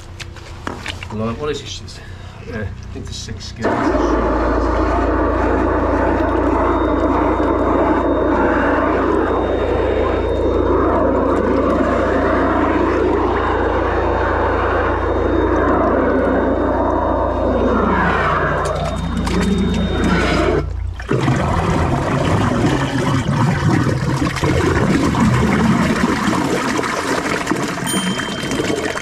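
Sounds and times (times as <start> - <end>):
drain jetting machine drone: 0.0 - 29.0
faint steady whine: 0.0 - 29.0.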